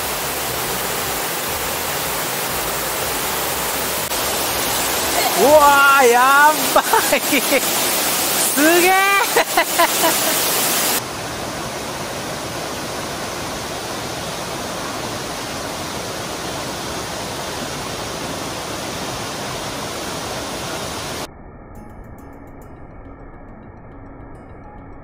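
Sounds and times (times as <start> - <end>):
waterfall pouring into pool: 0.0 - 21.3.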